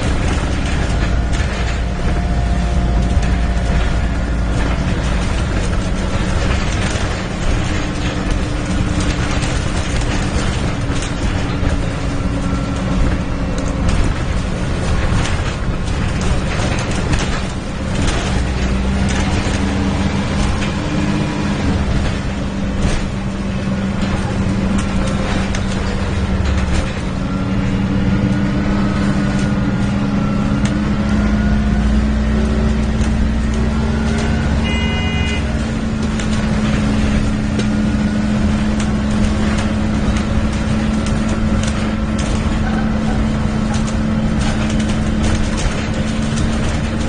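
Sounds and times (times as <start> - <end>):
bus diesel engine droning: 0.0 - 47.0.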